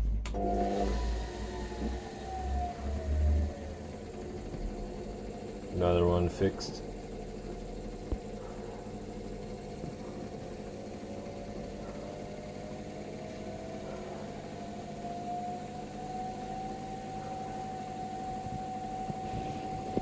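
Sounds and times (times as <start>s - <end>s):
motor whine: 0.0s - 20.0s
washing machine motor humming: 0.0s - 20.0s.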